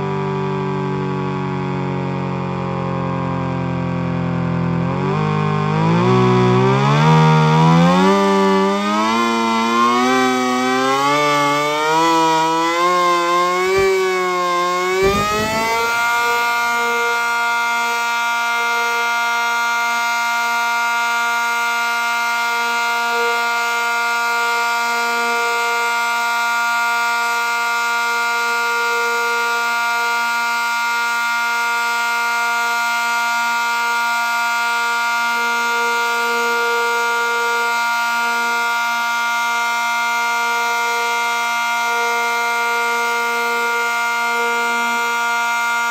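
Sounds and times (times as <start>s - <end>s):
warning siren: 0.0s - 45.9s.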